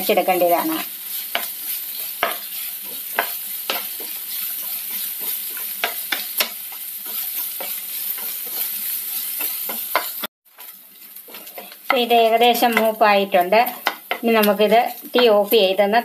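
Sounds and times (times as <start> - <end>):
onions sizzling in a frying pan: 0.0 - 16.0
wooden spatula scraping a pan: 0.4 - 15.7.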